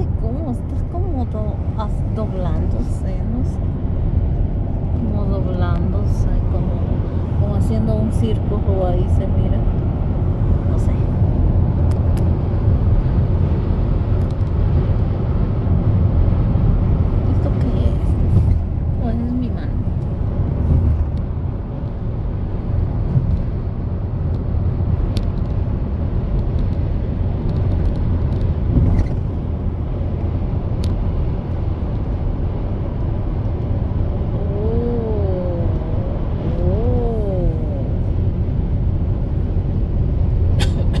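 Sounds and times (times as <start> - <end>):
loud low rumble: 0.0 - 41.0.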